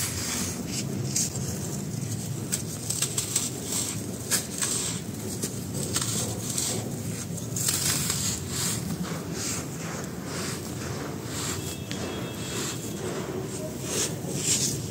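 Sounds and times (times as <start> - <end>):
grit sifting through fingers: 0.0 - 14.9.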